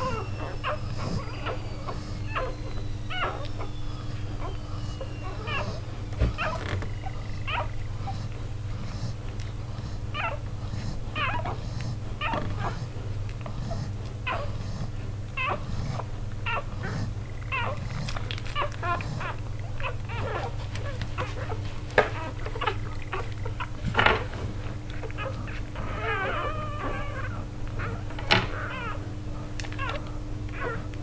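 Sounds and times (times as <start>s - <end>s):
puppies squeaking and whimpering: 0.0s - 31.0s.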